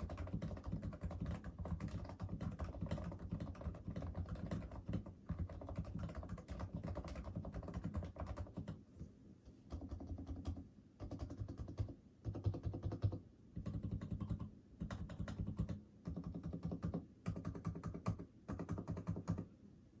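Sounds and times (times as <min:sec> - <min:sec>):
fast typing on keyboard: 0:00.0 - 0:08.8, 0:09.7 - 0:19.5.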